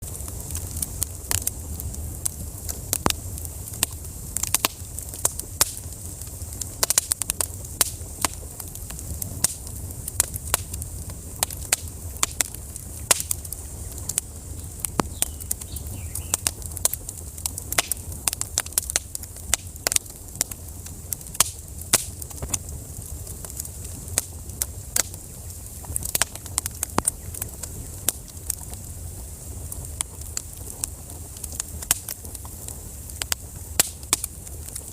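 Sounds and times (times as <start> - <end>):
low rumble of flames: 0.0 - 34.9
wood fire crackling and popping: 0.0 - 34.9.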